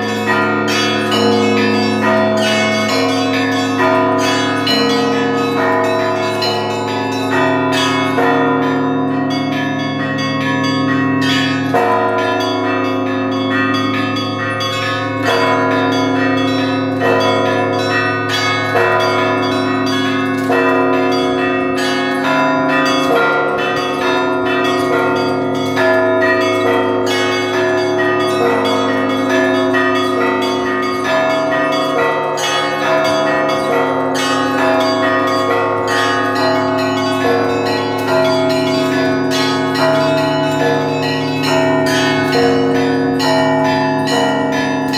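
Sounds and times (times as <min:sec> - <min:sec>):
deep bells humming: 0:00.0 - 0:44.9
small church bells ringing: 0:00.0 - 0:44.9.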